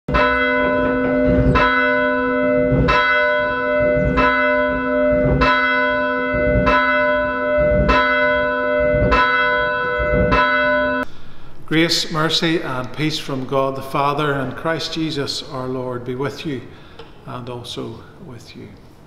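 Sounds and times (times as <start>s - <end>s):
church bell tolling: 0.1s - 16.7s.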